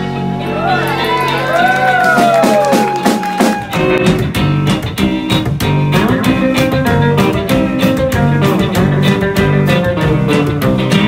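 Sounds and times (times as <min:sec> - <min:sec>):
drums: 0:00.0 - 0:11.0
electric guitars: 0:00.0 - 0:11.0
upright bass: 0:00.0 - 0:11.0.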